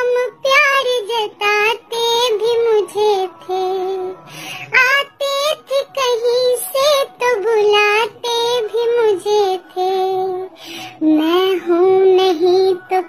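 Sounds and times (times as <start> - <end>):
music: 0.0 - 13.0
woman singing: 0.0 - 13.0.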